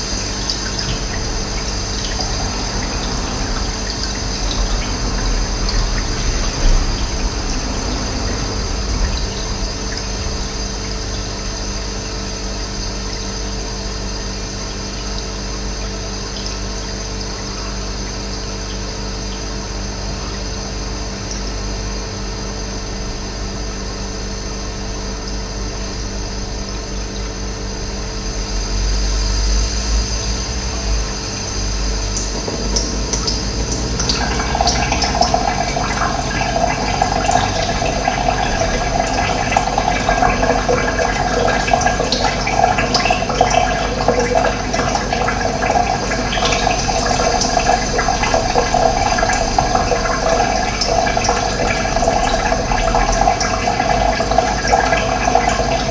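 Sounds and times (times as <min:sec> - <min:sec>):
running water splashing: 0:00.0 - 0:19.2, 0:29.9 - 0:55.9
steady hum: 0:00.0 - 0:55.9.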